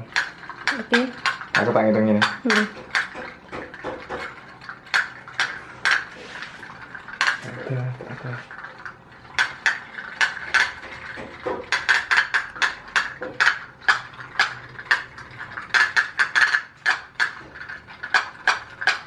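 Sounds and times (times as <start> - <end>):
pop-pop boat engines clicking: 0.0 - 19.0.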